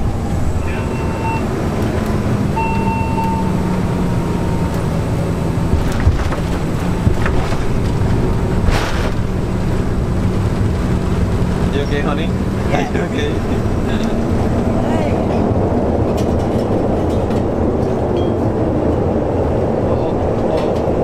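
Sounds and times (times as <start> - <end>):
jet engine and airflow rumble: 0.0 - 21.0.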